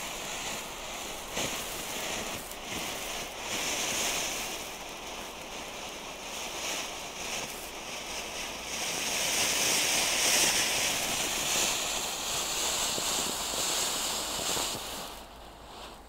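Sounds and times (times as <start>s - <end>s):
firework fountain hissing: 0.0s - 16.0s.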